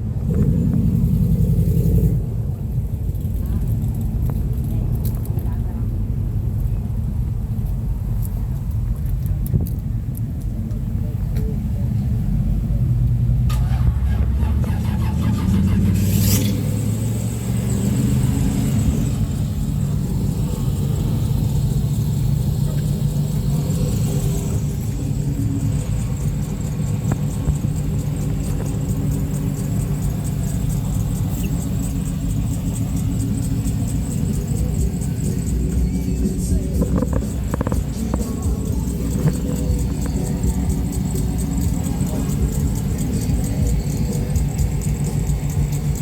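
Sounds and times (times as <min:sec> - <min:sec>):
car engine rumbling: 0:00.0 - 0:46.0.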